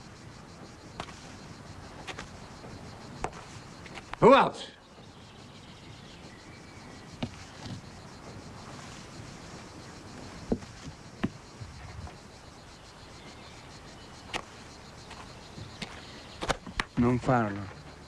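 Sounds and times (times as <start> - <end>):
low outdoor hiss: 0.0 - 18.0.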